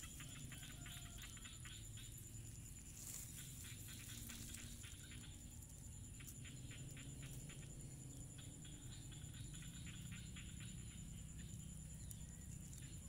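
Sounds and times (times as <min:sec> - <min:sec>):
small chirping clicks: 0:00.0 - 0:13.0
steady high-pitched whine: 0:00.0 - 0:13.0.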